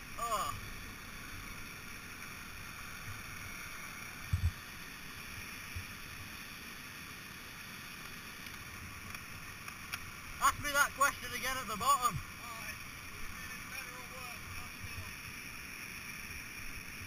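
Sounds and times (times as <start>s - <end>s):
white water pouring over falls: 0.0s - 17.0s.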